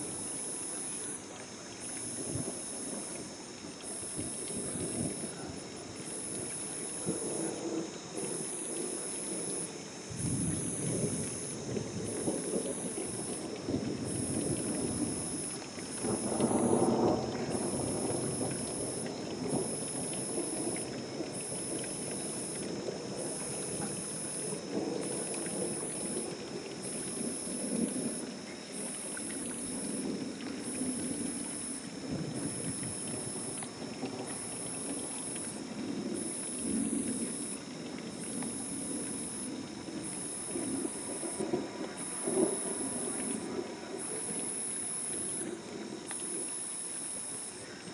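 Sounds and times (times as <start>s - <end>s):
rain hissing: 0.0s - 47.9s
thunder rumbling: 1.9s - 46.6s.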